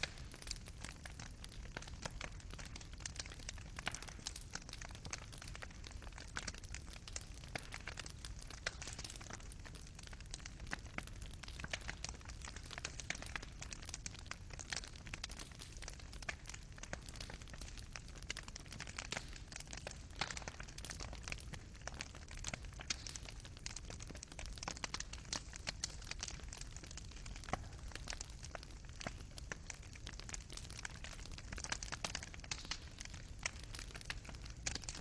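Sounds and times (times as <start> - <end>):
fireplace fire crackling: 0.0 - 35.0
low rumble of flames: 0.0 - 35.0.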